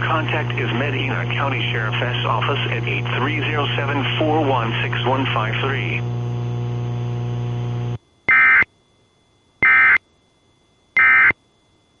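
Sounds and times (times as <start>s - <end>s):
steady buzzing hum: 0.0s - 12.0s.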